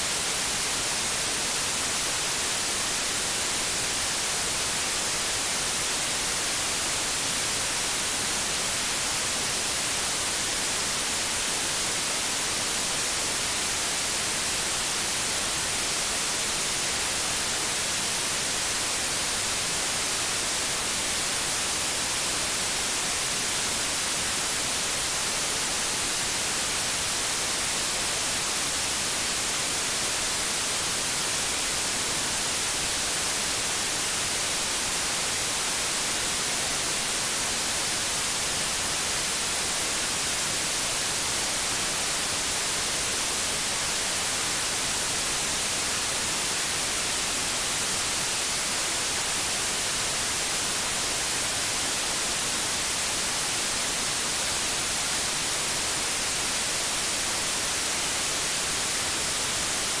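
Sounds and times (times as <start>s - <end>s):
white noise hiss: 0.0s - 60.0s.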